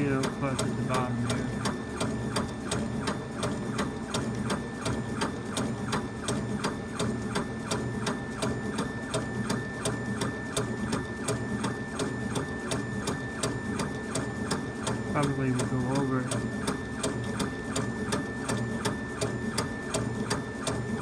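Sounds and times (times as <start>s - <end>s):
stepper motors clicking: 0.0s - 21.0s.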